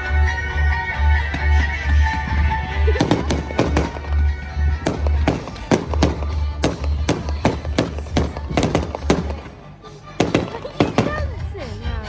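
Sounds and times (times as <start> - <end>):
music with pulsing bass: 0.0 - 12.0
fireworks bangs and crackles: 1.2 - 11.8.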